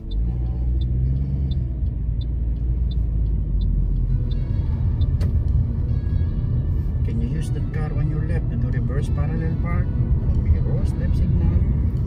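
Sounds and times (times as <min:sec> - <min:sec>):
turn indicator ticking: 0:00.0 - 0:06.4, 0:07.4 - 0:12.0
car engine and road rumble: 0:00.0 - 0:12.0.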